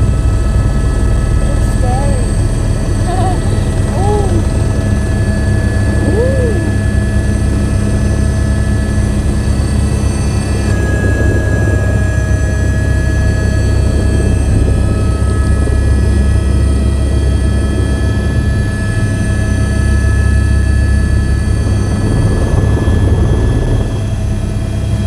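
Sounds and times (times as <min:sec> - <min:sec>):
helicopter rotor and engine drone: 0:00.0 - 0:25.0.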